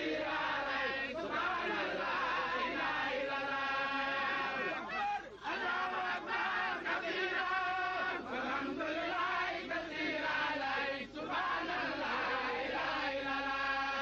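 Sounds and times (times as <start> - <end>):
crowd chanting in unison: 0.0 - 14.0.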